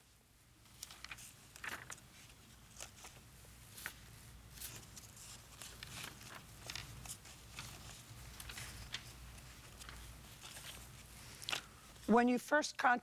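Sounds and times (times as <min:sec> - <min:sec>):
paper rustling: 0:00.6 - 0:12.2.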